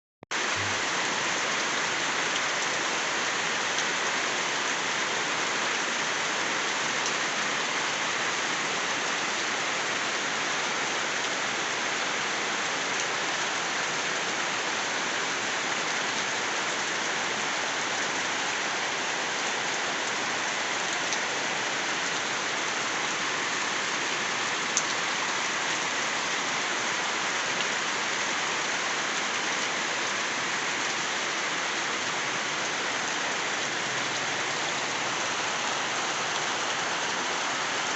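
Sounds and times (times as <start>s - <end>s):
steady rain hiss: 0.4s - 37.9s.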